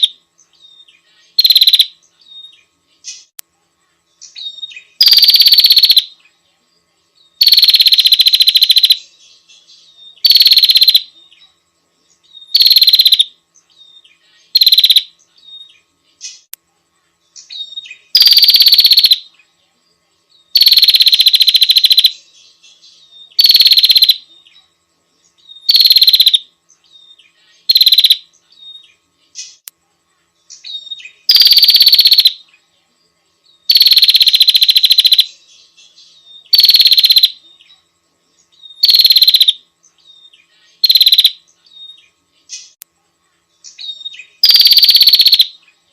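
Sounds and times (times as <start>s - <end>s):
bird buzzy trills: 0.0s - 45.9s.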